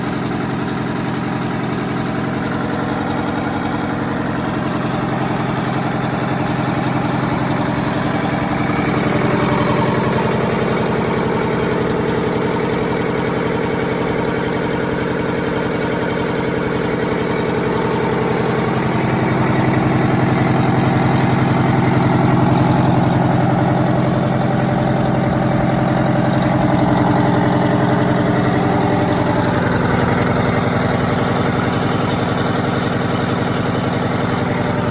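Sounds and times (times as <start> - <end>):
diesel engine fast idle: 0.0 - 34.9.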